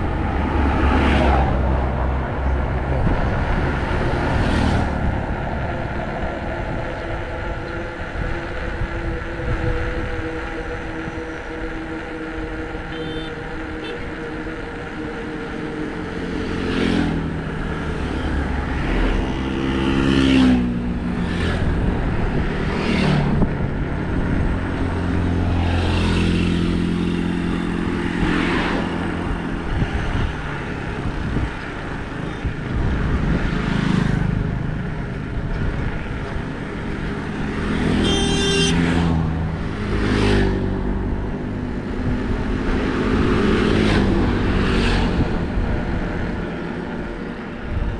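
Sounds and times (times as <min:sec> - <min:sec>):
road and tyre noise: 0:00.0 - 0:47.9
vehicle engines revving: 0:00.0 - 0:47.9.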